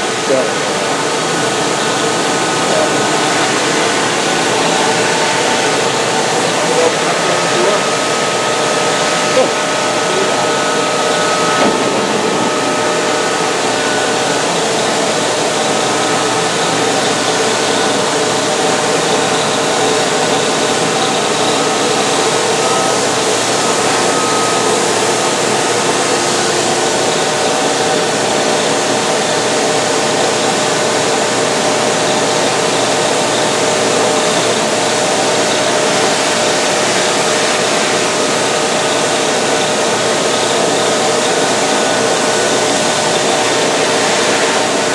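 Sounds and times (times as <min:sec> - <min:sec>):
faint steady whine: 0:00.0 - 0:44.9
machine milling metal: 0:00.0 - 0:44.9.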